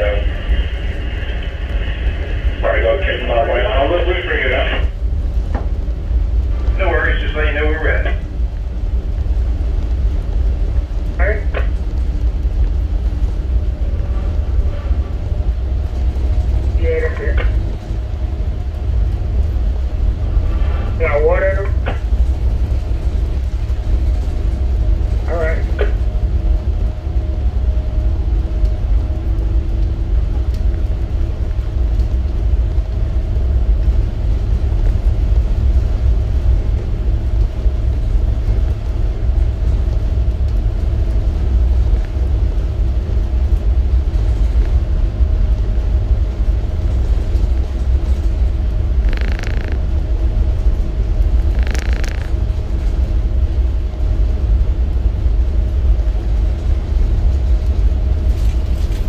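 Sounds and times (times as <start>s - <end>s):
diesel engines droning: 0.0s - 59.0s
steady hum: 0.0s - 59.0s.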